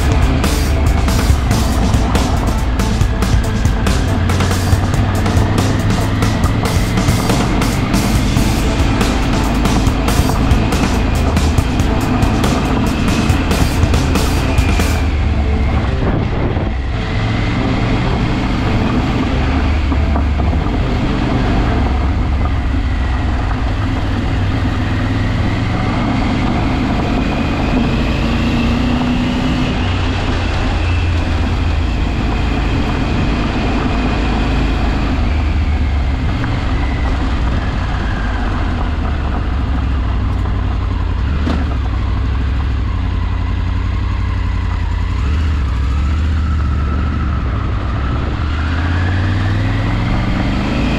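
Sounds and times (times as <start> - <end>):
vehicle engine rumbling: 0.0 - 50.9.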